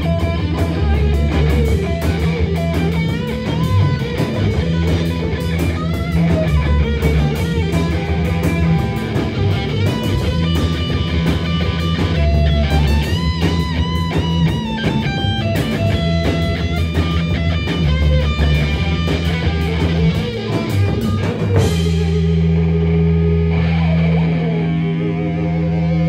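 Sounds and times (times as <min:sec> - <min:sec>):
steady drumbeat: 0:00.0 - 0:23.0
electric guitar: 0:00.0 - 0:26.0.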